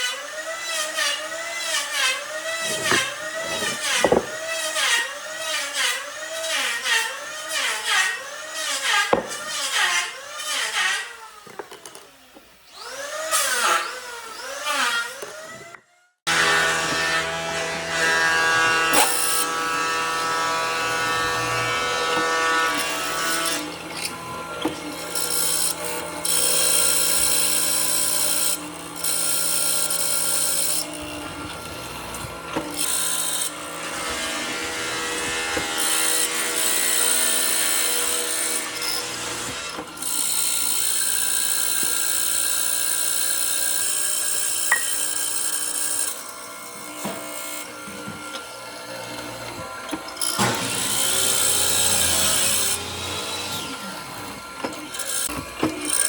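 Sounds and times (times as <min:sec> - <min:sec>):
electric power tool working wood: 0:00.0 - 0:56.0.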